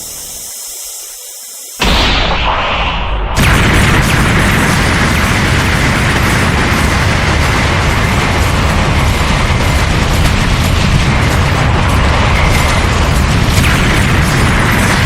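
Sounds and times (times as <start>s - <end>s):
explosion rumble with crackle: 1.8s - 15.0s.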